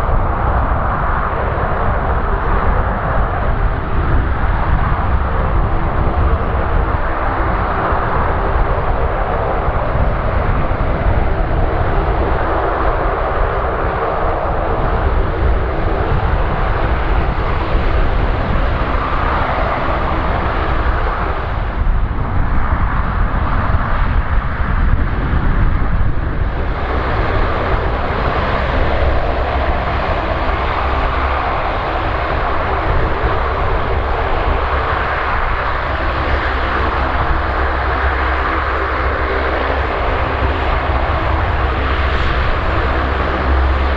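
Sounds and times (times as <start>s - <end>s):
turboprop engines running: 0.0s - 43.9s.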